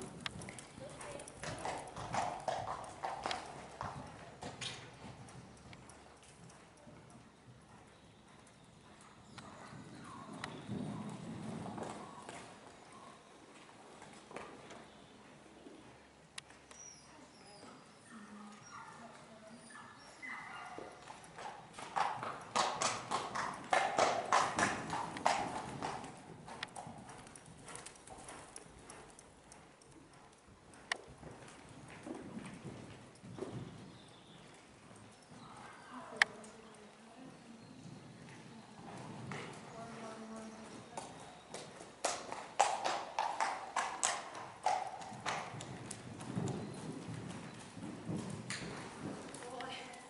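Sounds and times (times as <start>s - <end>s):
horse hoofbeats cantering: 0.0s - 12.9s, 20.3s - 50.0s.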